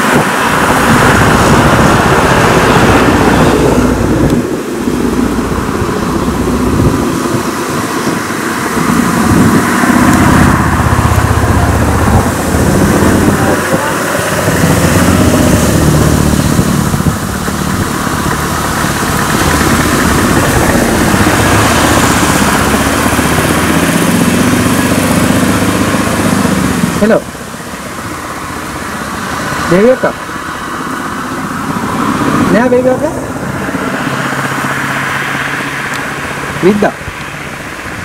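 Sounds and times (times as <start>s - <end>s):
cars driving past: 0.0s - 38.0s
lorry passing: 0.0s - 38.0s
motorcycle passing: 0.0s - 38.0s
vehicle engine running: 0.0s - 38.0s.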